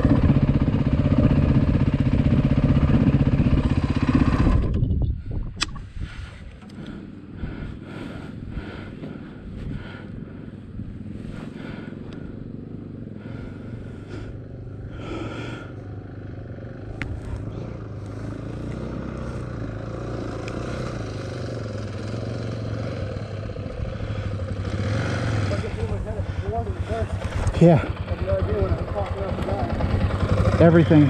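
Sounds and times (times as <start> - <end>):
dirt bike engine idling: 0.0 - 5.0, 6.3 - 31.0
dirt bike approaching: 0.0 - 31.0.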